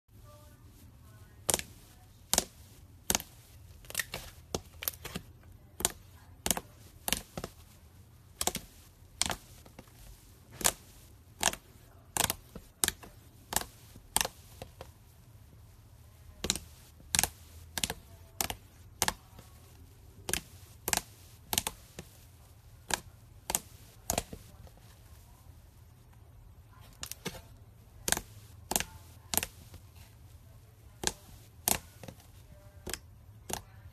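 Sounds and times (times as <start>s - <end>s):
low steady hum: 0.1s - 33.9s.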